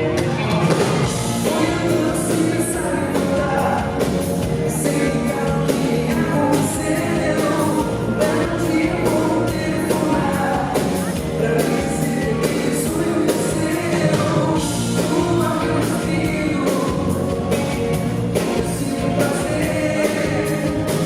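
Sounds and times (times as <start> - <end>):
drum beat with cymbals: 0.0 - 21.0
pop-rock band playing: 0.0 - 21.0.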